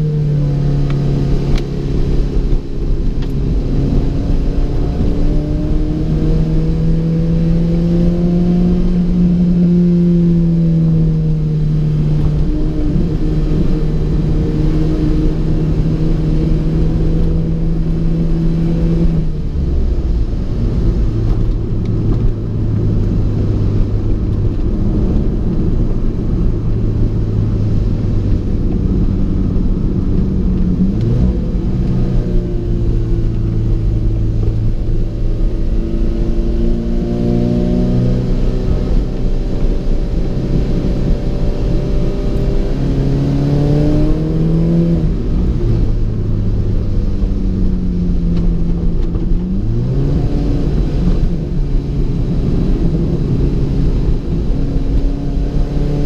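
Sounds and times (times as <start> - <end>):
car engine accelerating through gears: 0.0 - 56.0.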